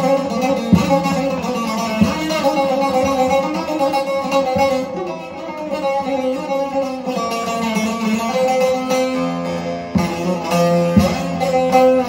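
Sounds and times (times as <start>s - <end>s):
plucked long-necked lute: 0.0s - 12.0s.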